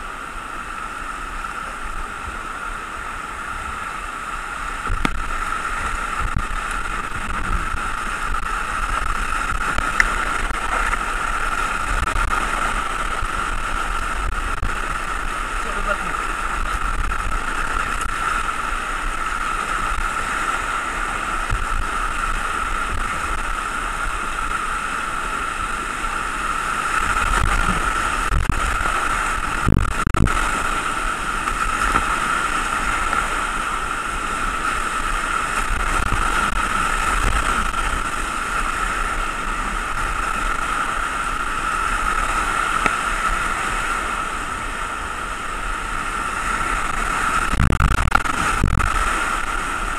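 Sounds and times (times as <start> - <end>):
whitewater rapids rushing: 0.0 - 49.9
paddle strokes splashing: 1.1 - 49.9.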